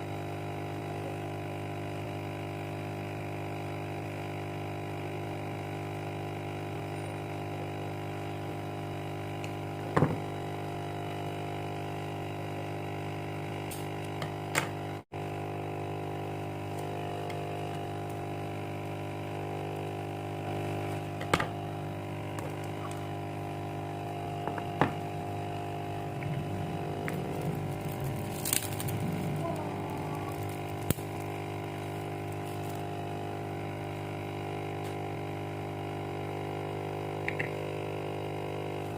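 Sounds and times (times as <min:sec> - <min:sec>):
steady hum: 0:06.6 - 0:38.9.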